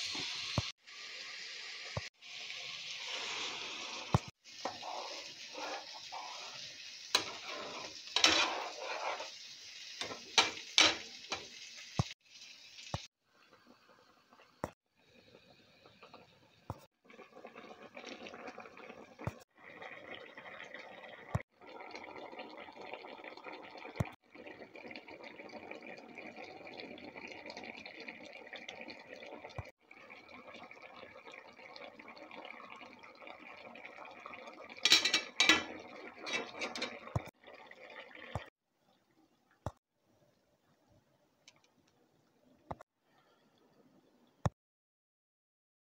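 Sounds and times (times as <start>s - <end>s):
pot boiling and bubbling: 0.0s - 44.5s.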